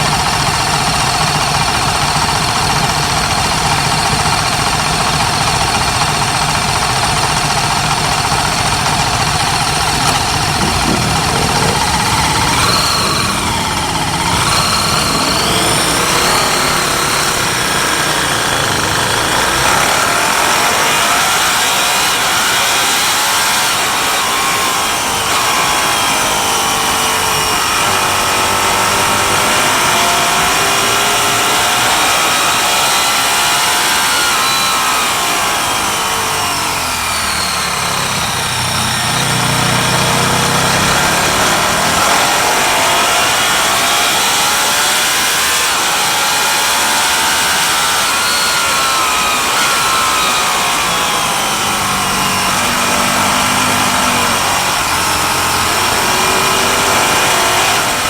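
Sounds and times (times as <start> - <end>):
motorcycle engine revving high: 0.0 - 58.0.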